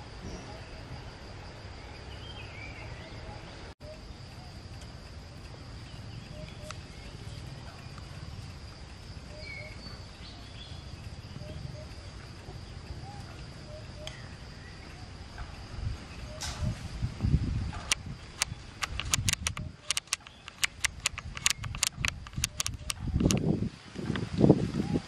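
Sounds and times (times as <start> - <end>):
high-pitched insect drone: 0.0 - 23.6.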